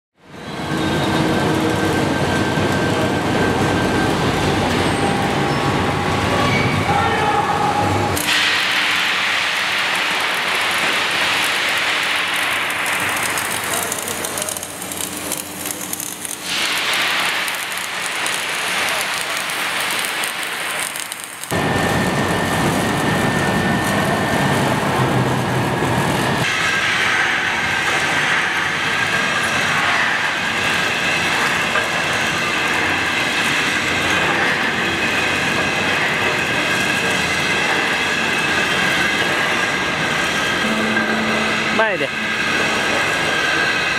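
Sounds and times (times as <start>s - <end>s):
welding and machinery rumble: 0.2s - 43.9s.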